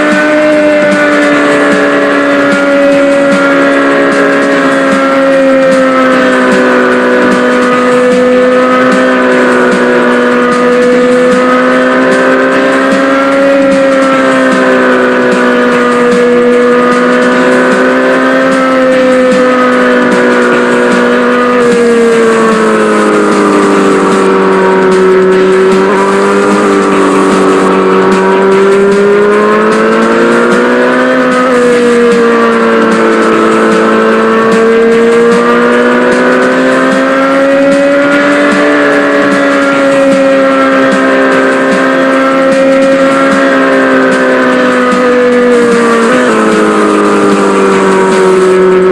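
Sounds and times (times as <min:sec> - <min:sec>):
small engine buzzing whine: 0:00.0 - 0:48.9.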